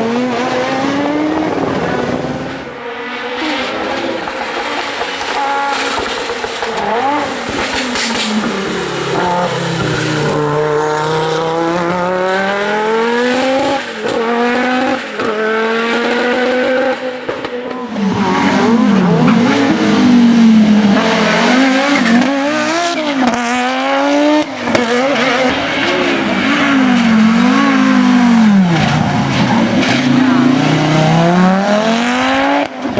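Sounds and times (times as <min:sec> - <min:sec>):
rally car engine at full throttle: 0:00.0 - 0:32.9.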